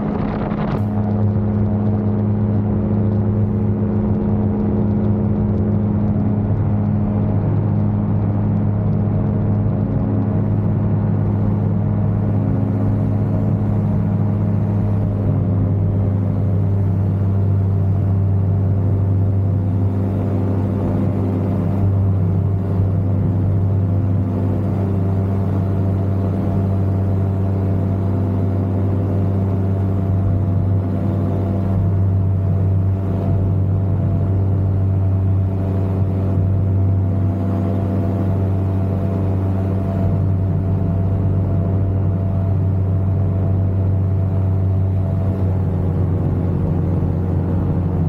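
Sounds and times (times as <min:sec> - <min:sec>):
aircraft engine droning: 0:00.0 - 0:48.0.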